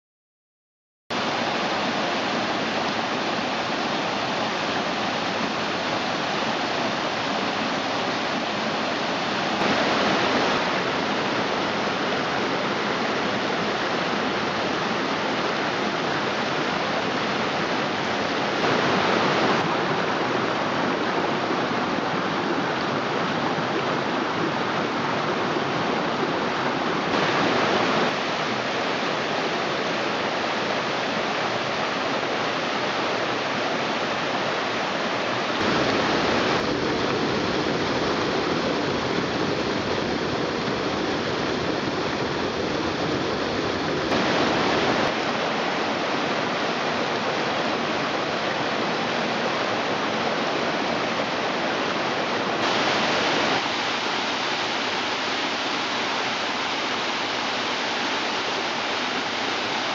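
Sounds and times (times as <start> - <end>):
creek rushing over rocks: 1.1 - 59.9.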